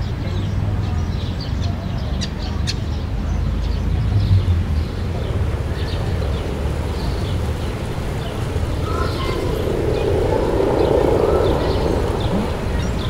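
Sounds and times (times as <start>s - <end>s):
distant traffic rumble: 0.0s - 13.0s
small birds chirping: 0.0s - 13.0s.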